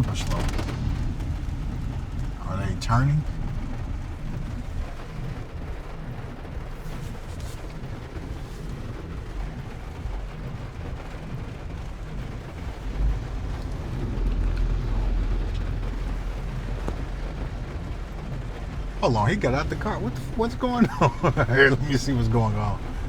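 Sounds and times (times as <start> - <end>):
low rumble inside car: 0.0 - 23.0.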